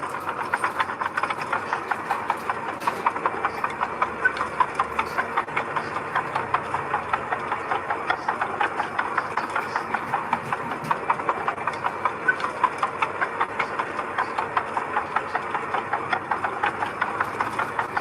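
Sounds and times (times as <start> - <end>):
rapid metallic clatter: 0.0 - 18.0
truck engine running: 0.0 - 18.0.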